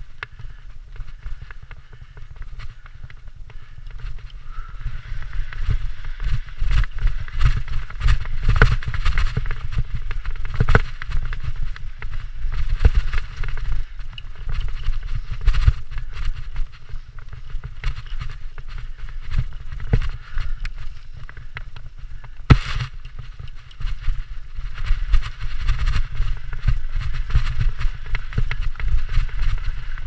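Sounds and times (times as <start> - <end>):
bike rattling over bumps: 0.0 - 30.0
tyres crunching over dirt: 0.0 - 30.0.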